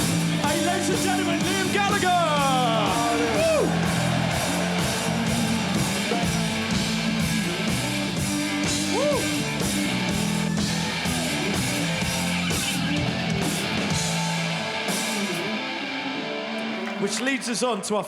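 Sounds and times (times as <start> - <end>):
steady drum beat: 0.0 - 15.5
strummed electric guitar: 0.0 - 17.8.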